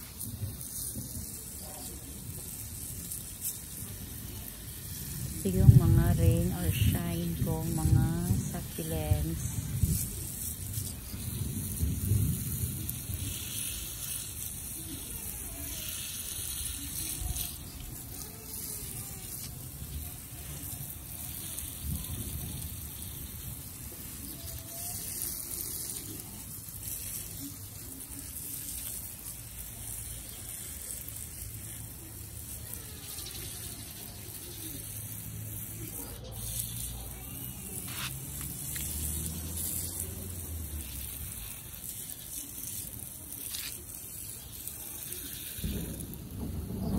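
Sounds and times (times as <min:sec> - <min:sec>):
water hissing from spray nozzle: 0:00.0 - 0:46.9.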